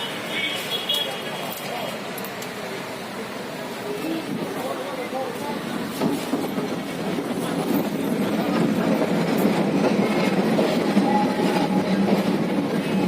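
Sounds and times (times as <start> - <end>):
tram wheels rolling on rails: 0.0 - 13.0.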